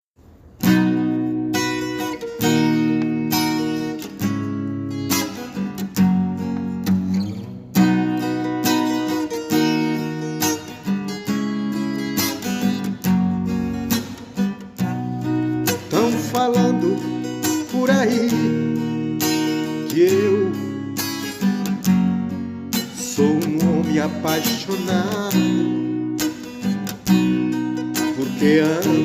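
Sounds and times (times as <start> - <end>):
acoustic guitar strumming chords: 0.2 - 29.0.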